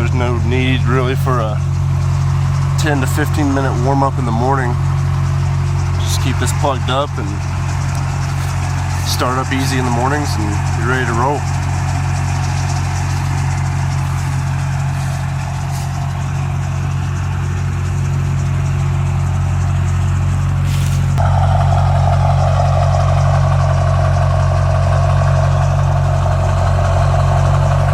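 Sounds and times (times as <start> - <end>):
steady mid-pitched hum: 0.0 - 24.3
diesel truck idling: 0.0 - 27.9.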